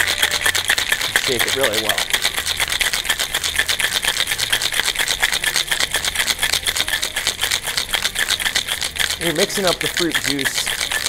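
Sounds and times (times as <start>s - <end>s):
ice rattling in cocktail shaker: 0.0s - 11.0s.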